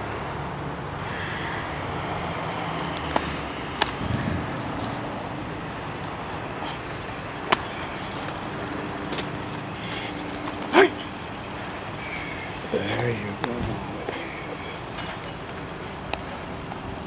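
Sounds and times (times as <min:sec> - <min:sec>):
faint drawn-out hum: 0:00.0 - 0:17.0
traffic noise: 0:00.0 - 0:17.0.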